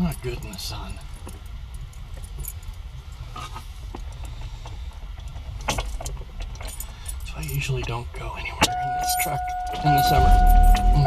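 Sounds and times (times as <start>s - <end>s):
light jingling: 0.0s - 3.4s, 4.0s - 11.0s
small rattles: 0.0s - 11.0s
truck engine rumbling: 0.0s - 11.0s.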